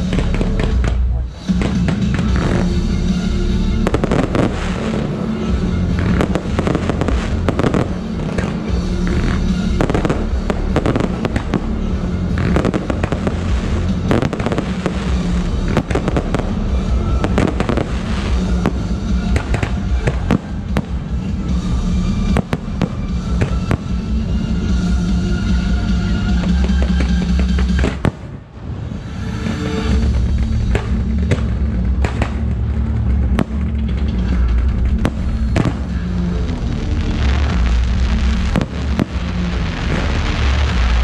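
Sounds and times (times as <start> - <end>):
fireworks bangs: 0.0 - 25.0, 25.6 - 41.0
loud music: 0.0 - 41.0.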